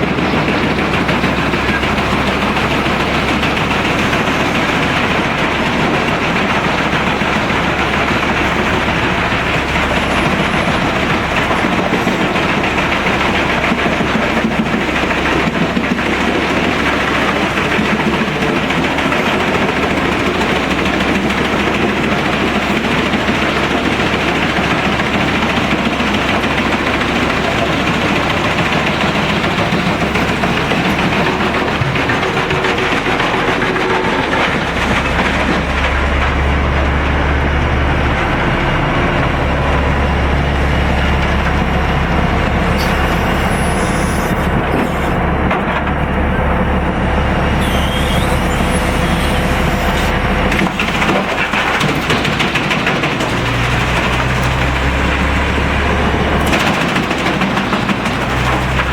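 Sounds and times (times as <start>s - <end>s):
wood chipper chipping wood: 0.0s - 58.9s.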